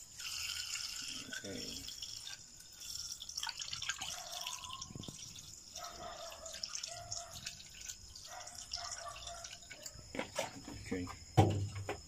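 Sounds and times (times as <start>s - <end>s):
liquid pouring through plastic funnel: 0.0s - 10.0s.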